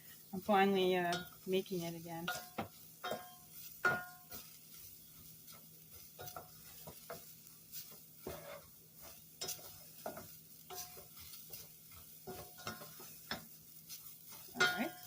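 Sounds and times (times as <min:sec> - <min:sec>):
leek sizzling in oil: 0:00.0 - 0:15.0
utensil scraping a pot: 0:01.1 - 0:15.0.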